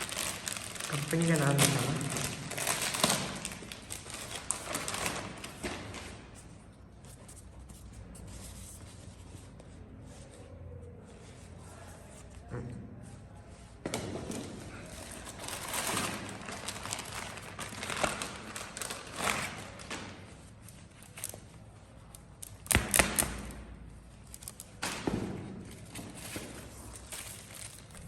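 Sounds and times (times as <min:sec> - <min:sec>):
rustling and handling noise: 0:00.0 - 0:22.8, 0:23.4 - 0:28.0.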